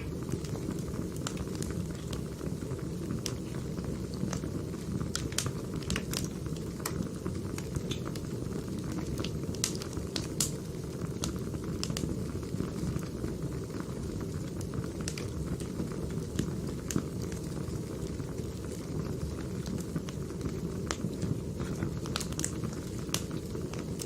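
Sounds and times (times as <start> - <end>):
fire rushing: 0.0 - 24.0
firewood crackling and popping: 0.0 - 24.0.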